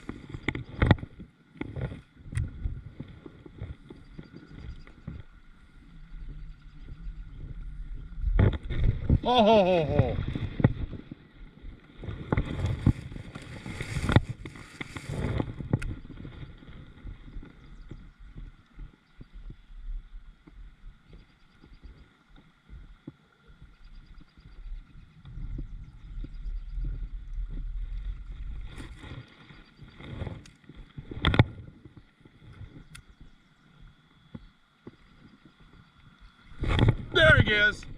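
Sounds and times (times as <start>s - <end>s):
kayak water noise: 0.0s - 37.9s.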